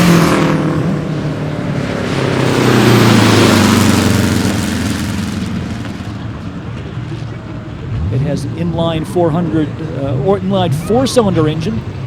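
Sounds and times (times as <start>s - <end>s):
racing car engine passing: 0.0s - 12.0s.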